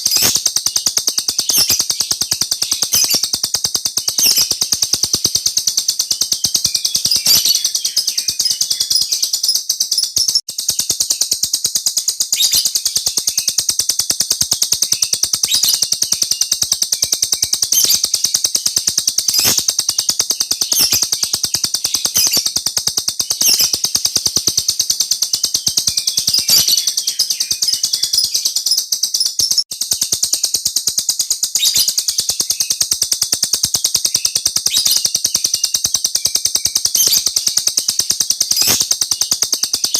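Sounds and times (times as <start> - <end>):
small bird trilling: 0.0 - 30.6, 31.5 - 32.9, 33.5 - 39.9.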